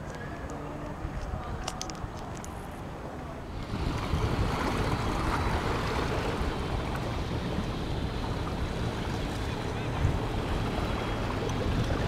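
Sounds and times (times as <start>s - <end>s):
wind blowing across microphone: 0.0s - 12.0s
sea water rushing along shore: 0.3s - 12.0s.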